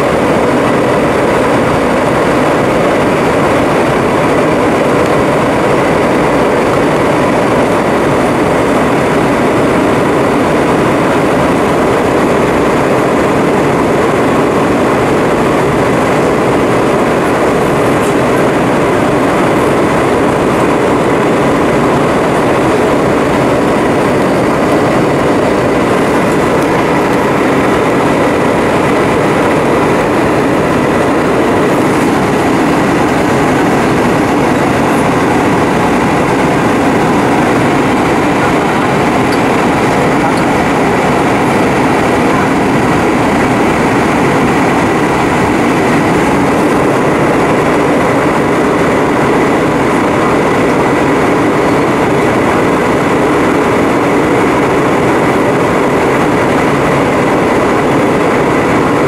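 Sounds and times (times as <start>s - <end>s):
airplane cabin engine rush: 0.0s - 59.0s
faint steady whine: 0.0s - 59.0s.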